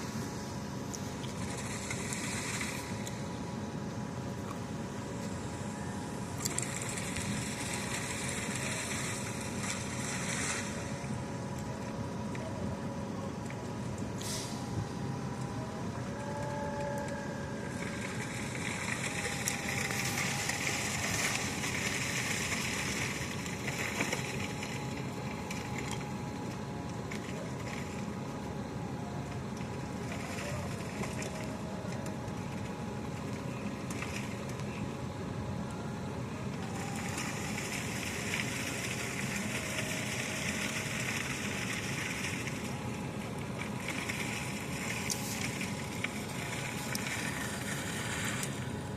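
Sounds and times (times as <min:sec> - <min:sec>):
construction machinery running: 0:00.0 - 0:48.9
hissing whine: 0:00.0 - 0:48.9.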